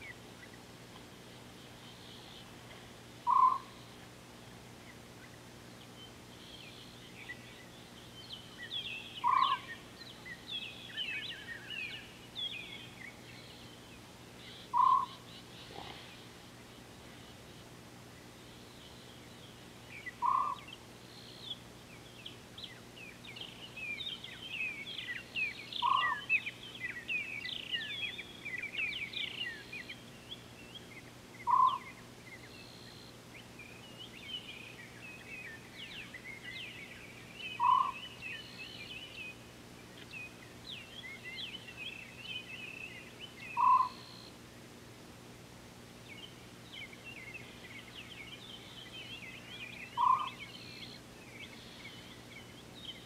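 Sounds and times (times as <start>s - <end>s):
birds chirping and trilling: 0.0s - 44.4s, 46.0s - 53.0s
low bird call: 1.5s - 4.0s, 5.2s - 17.6s, 18.4s - 21.6s, 23.4s - 44.4s, 46.2s - 53.0s.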